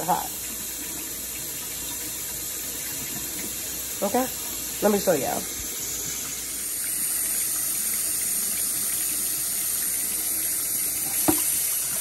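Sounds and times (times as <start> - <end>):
tap water running into a sink: 0.0 - 12.0.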